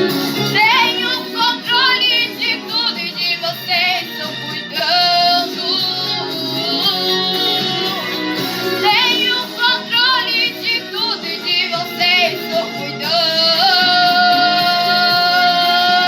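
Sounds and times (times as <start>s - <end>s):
high voice singing with vibrato: 0.0s - 16.0s
sustained instrumental accompaniment: 0.0s - 16.0s.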